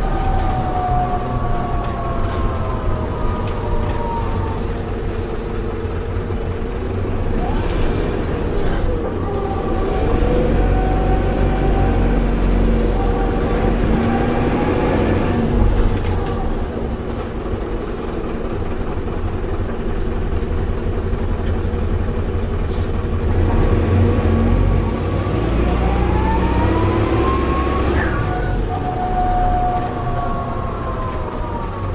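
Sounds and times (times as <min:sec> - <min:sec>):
engine and road rumble: 0:00.0 - 0:31.9.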